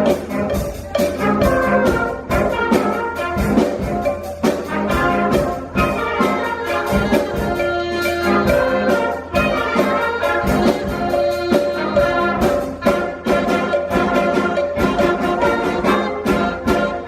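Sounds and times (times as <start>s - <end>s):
brass instruments: 0.0s - 17.0s
sharp percussion strokes: 0.0s - 17.0s.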